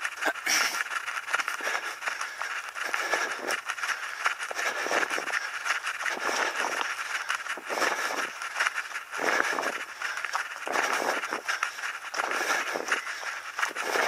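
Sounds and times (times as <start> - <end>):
running footsteps on gravel: 0.0 - 14.0.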